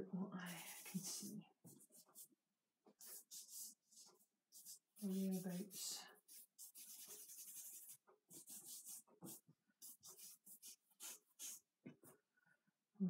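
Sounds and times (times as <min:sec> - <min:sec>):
charcoal scratching on paper: 0:00.5 - 0:02.3, 0:03.0 - 0:11.7.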